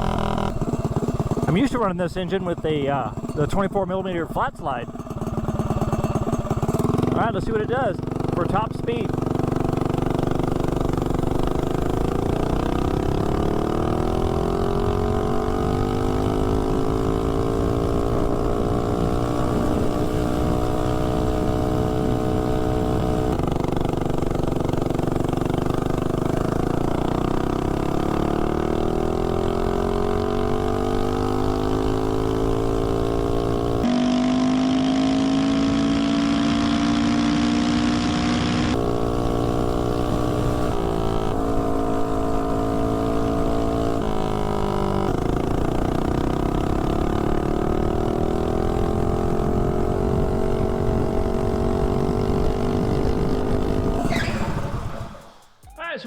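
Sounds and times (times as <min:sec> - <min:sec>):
mini bike engine revving: 0:00.0 - 0:55.5.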